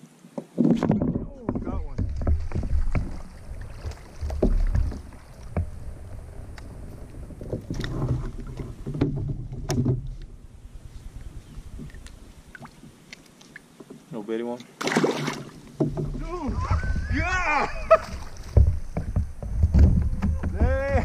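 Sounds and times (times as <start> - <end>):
wind rumble on microphone: 0.7 - 12.6, 16.0 - 21.0.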